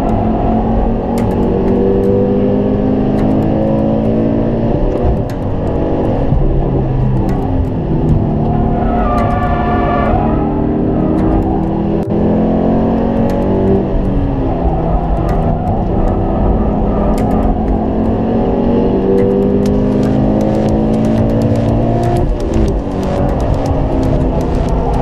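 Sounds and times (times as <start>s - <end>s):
car engine accelerating hard: 0.0s - 25.0s
gear change: 0.0s - 25.0s.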